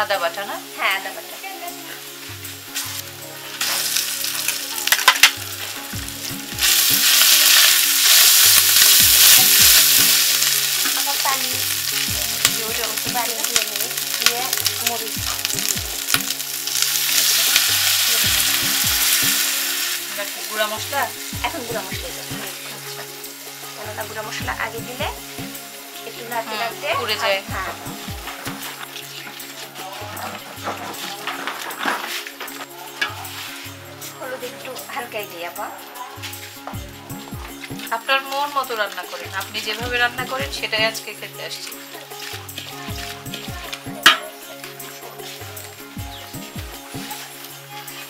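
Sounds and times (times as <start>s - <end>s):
spices sizzling in hot oil: 0.0s - 48.0s.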